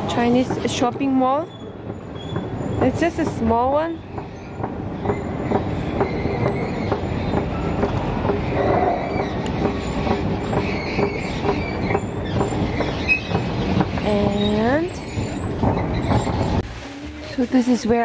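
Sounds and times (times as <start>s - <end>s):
escalator steps clacking: 0.0s - 16.6s.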